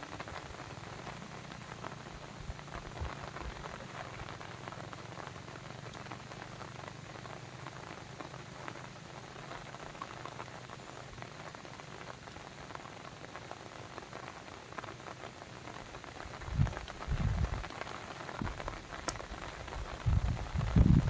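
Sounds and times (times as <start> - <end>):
water pattering: 0.0 - 21.0.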